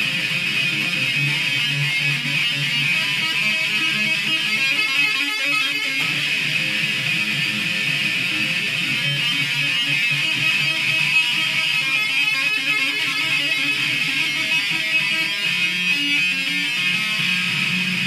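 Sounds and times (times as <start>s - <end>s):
electric guitar tapping: 0.0s - 18.0s.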